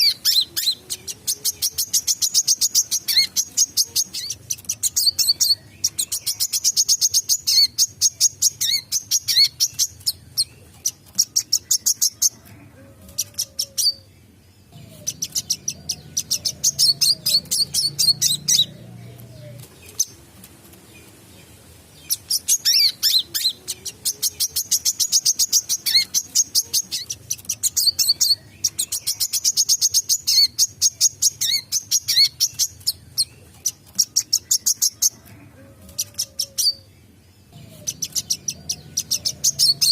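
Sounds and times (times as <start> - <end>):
sunbird singing rapid high chirps: 0.0 - 12.4, 13.3 - 20.2, 20.9 - 35.2, 36.4 - 39.9.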